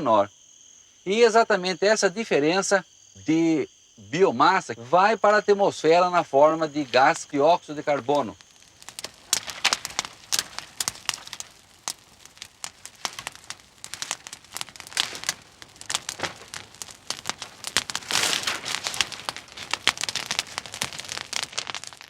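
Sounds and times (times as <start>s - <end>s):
fire crackling and popping: 3.0s - 22.0s.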